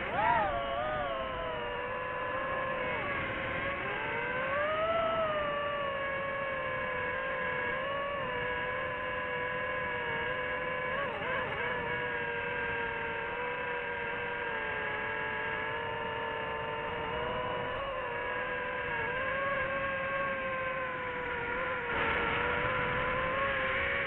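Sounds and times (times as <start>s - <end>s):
drone propellers whining: 0.0s - 24.0s.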